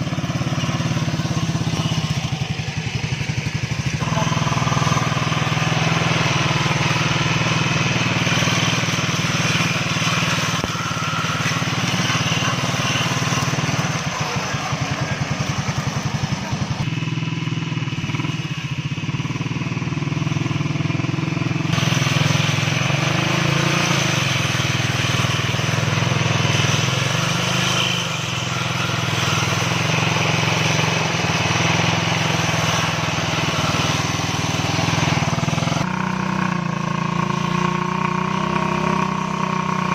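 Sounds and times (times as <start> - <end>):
grass cutter engine running: 0.0 - 39.9.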